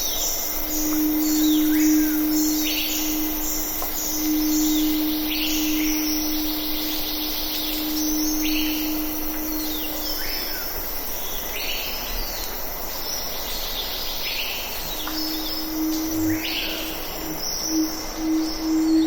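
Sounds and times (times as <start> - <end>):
steady low hum: 0.0 - 12.1, 14.6 - 19.0.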